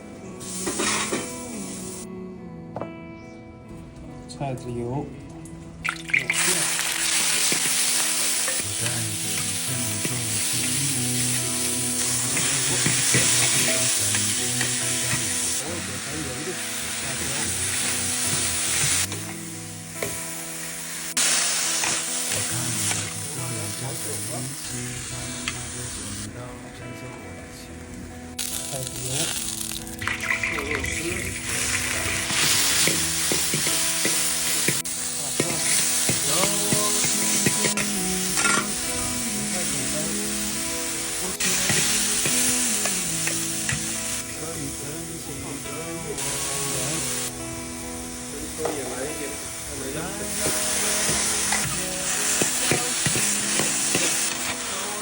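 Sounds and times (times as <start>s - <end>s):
food sizzling in hot oil: 0.4s - 2.1s, 5.8s - 26.3s, 28.4s - 55.0s.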